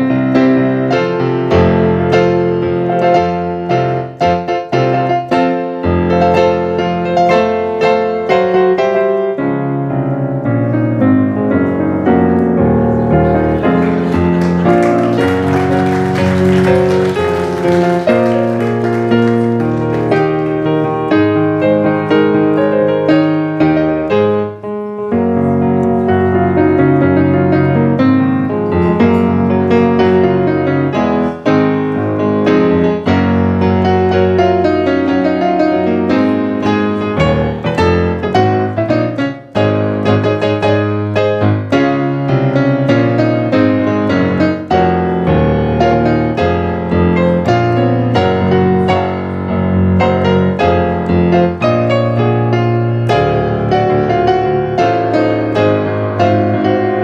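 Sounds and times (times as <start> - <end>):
piano playing: 0.0 - 57.0.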